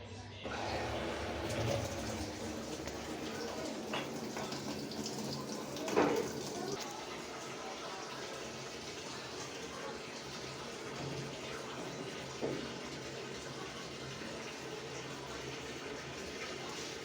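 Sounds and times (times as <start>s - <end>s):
water running in washing machine: 0.5s - 17.0s.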